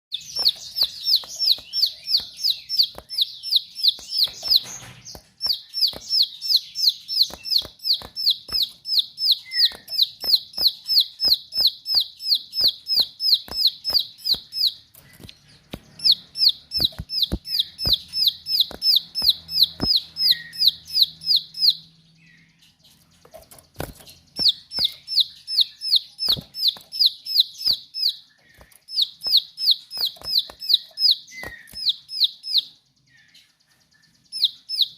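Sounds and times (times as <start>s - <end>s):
bird singing repeated sharp notes: 0.1s - 34.9s
sharp clicks: 0.2s - 21.2s, 23.3s - 32.7s.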